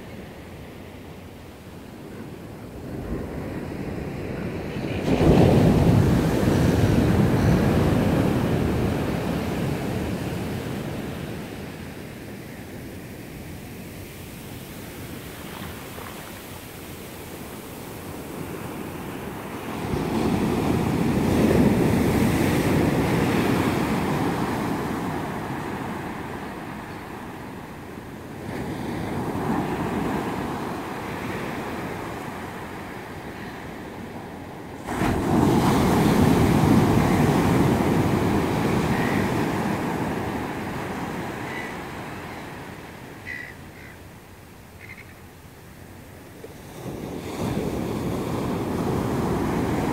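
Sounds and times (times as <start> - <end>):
ocean surf breaking on beach: 0.0 - 43.9, 45.7 - 49.9.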